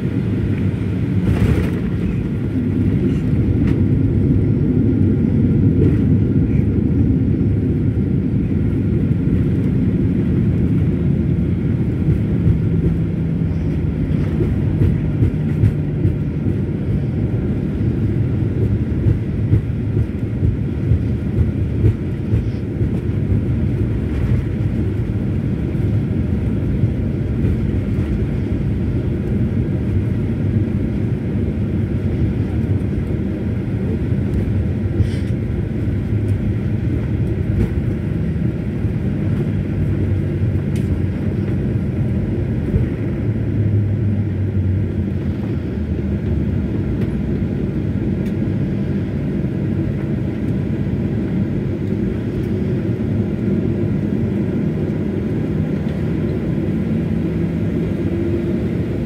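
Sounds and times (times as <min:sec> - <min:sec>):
low rumble of engines and wheels: 0:00.0 - 0:59.0.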